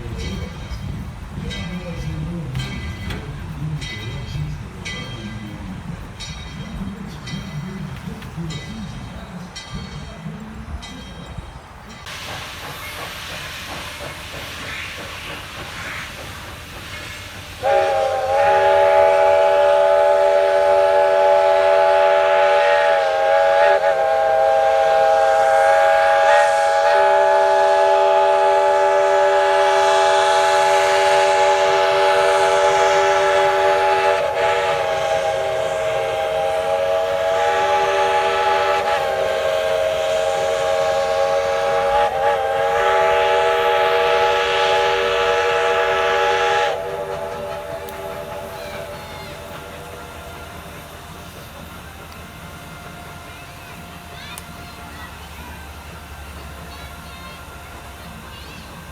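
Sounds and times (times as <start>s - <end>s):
steam locomotive hissing: 0.0s - 58.9s.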